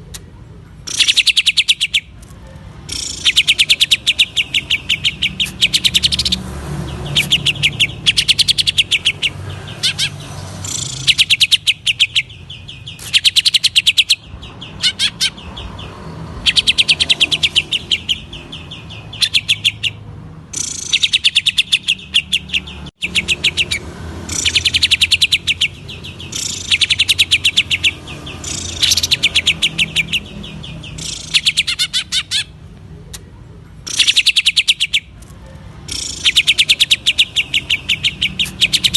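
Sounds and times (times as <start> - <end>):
bird singing rapid rattling notes: 0.8 - 32.6, 33.8 - 38.9.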